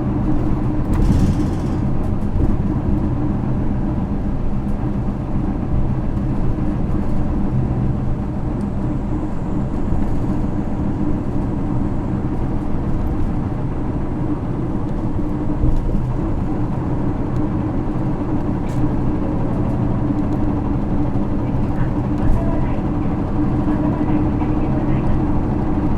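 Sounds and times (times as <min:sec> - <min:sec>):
bus diesel engine running: 0:00.0 - 0:25.9
road noise: 0:00.0 - 0:25.9.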